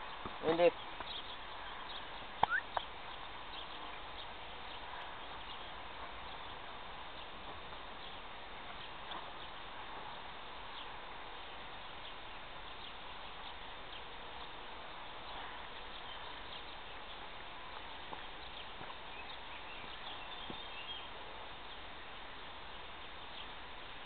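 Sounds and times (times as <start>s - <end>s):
birds chirping: 0.0s - 24.0s
steady hiss: 0.0s - 24.0s.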